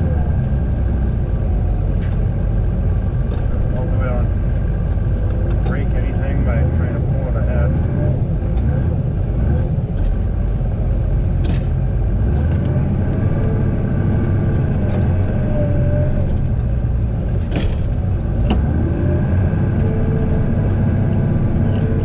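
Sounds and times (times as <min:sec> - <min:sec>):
tractor engine running under load: 0:00.0 - 0:22.0.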